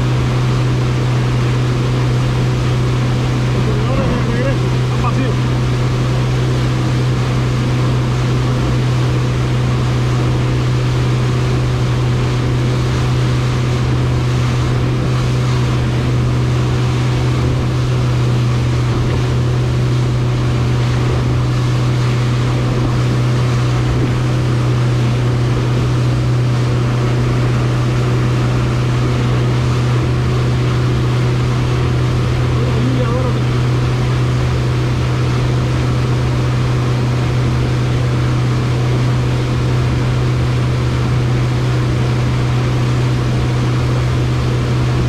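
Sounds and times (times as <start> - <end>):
outboard motor droning: 0.0 - 45.0
water rushing: 0.0 - 45.0
wind: 0.0 - 45.0.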